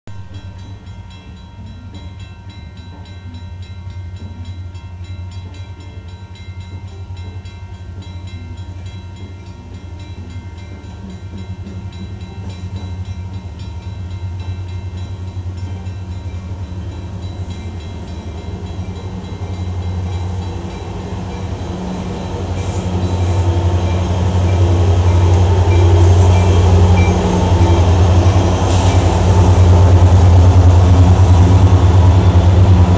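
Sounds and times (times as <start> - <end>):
diesel locomotive rumble: 2.9 - 32.9.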